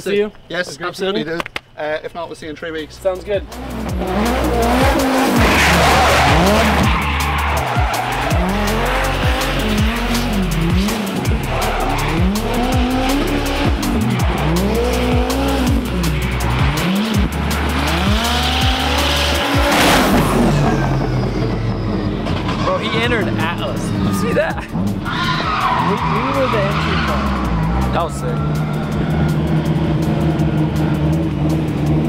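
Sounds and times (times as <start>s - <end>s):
car engine revving: 3.4s - 32.0s
tires squealing: 3.4s - 32.0s.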